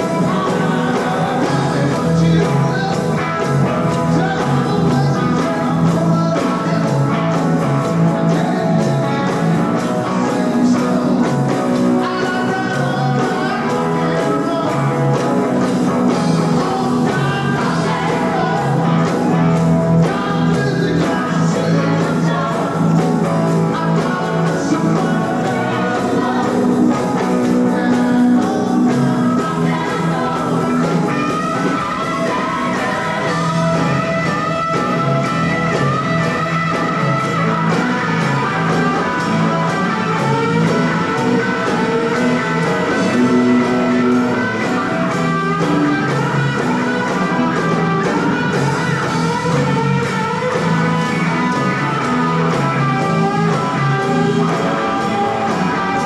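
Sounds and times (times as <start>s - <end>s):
bass line: 0.0s - 56.0s
guitar: 0.0s - 56.0s
person singing: 0.0s - 56.0s
rock band playing: 0.0s - 56.0s.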